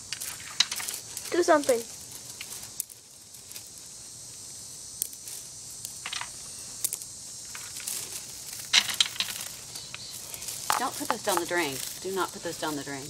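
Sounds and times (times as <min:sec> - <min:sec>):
gravel stones clicking: 0:00.0 - 0:04.2, 0:04.9 - 0:13.0
steady hiss: 0:00.0 - 0:13.0.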